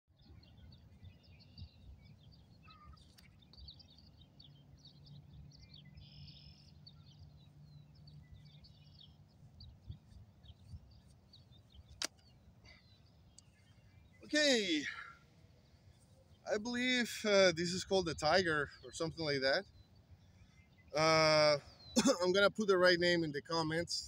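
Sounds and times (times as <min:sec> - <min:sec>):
small birds chirping and trilling: 0:00.1 - 0:24.0.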